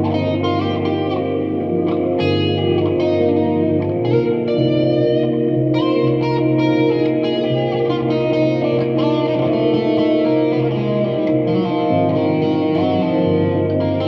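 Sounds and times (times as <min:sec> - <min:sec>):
electric guitar solo: 0:00.0 - 0:14.0.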